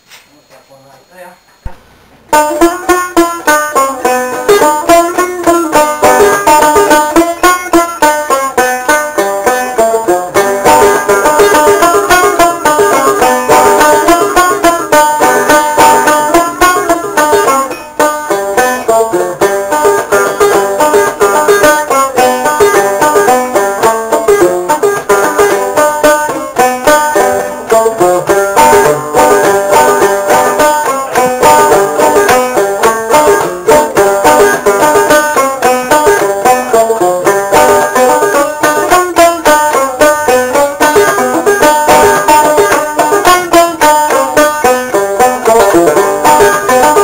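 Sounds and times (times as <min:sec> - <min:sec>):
banjo music: 0:02.2 - 0:47.0.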